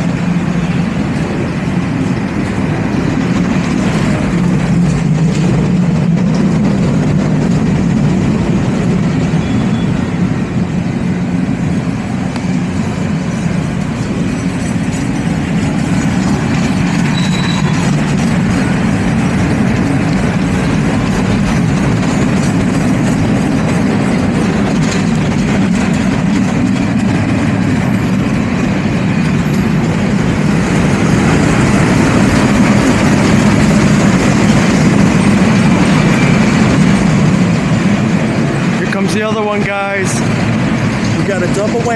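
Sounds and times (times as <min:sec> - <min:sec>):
train wheels rumbling on rails: 0:00.0 - 0:41.9.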